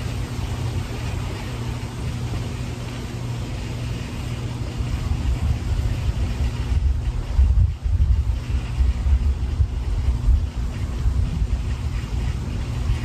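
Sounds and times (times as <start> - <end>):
faint steady hum: 0.0 - 13.0
low outdoor rumble: 0.0 - 13.0.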